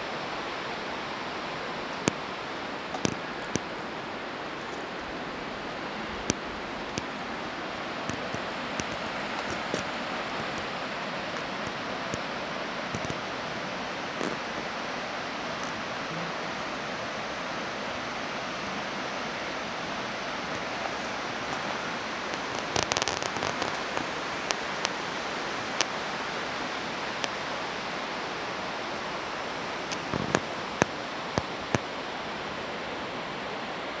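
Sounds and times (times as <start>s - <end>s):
steady rushing hiss: 0.0s - 34.0s.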